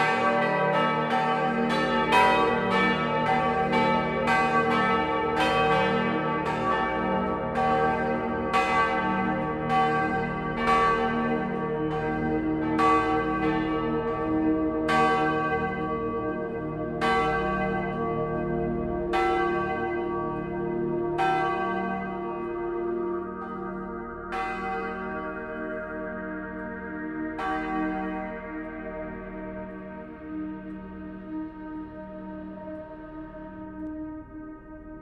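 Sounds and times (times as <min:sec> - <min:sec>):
church bells pealing: 0:00.0 - 0:34.0.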